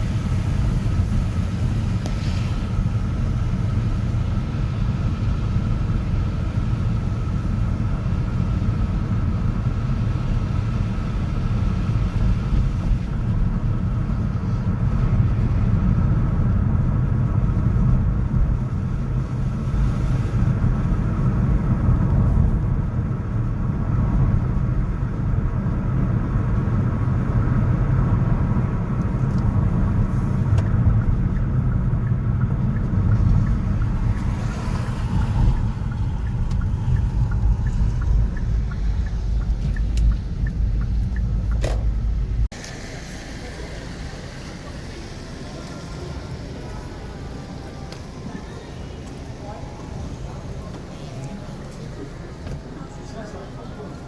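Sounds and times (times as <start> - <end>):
low rumble of road traffic: 0.0 - 54.0.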